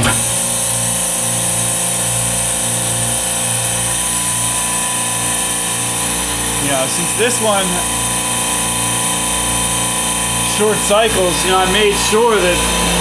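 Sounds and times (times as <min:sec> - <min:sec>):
refrigeration compressors humming: 0:00.0 - 0:13.0.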